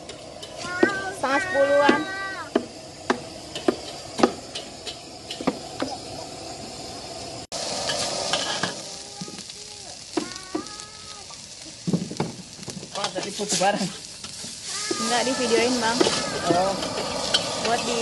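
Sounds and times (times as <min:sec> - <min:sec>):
noodles sizzling in a wok: 0:00.0 - 0:18.0.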